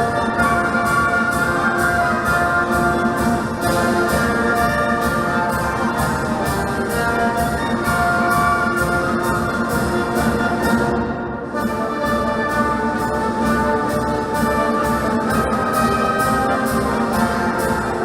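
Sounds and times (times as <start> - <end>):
brass band playing march: 0.0 - 18.0.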